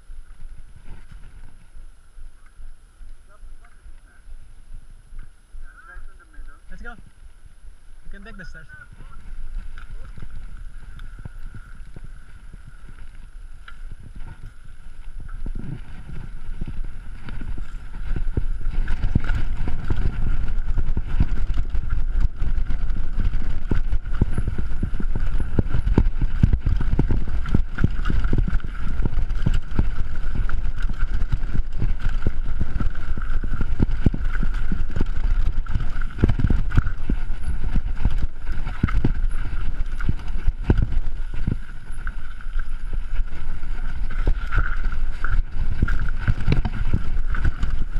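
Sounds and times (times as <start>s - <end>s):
bike rattling over bumps: 0.0s - 2.0s, 6.7s - 47.9s
wind on microphone: 0.0s - 47.9s.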